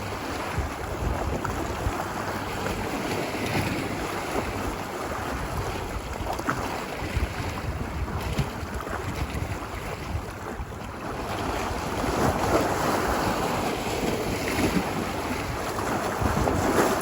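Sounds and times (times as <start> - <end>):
ocean waves washing onto beach: 0.0 - 17.0
wind on microphone: 0.0 - 17.0.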